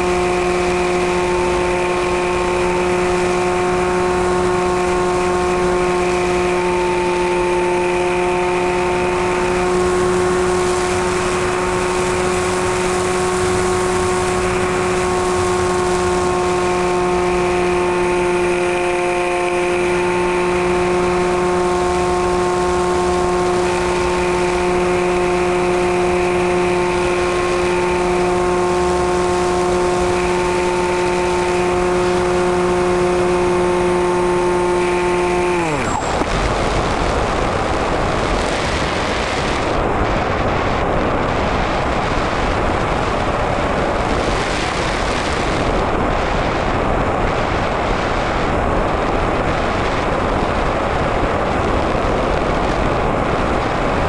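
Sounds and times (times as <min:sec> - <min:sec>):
electric motor propeller whine: 0:00.0 - 0:54.0.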